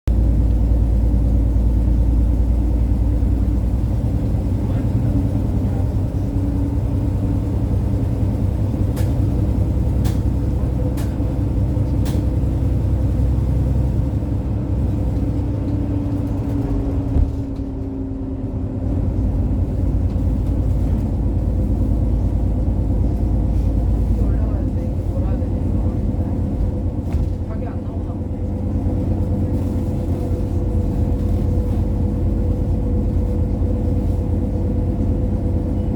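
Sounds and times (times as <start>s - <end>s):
vehicle engine and tyres rumbling: 0.1s - 35.9s.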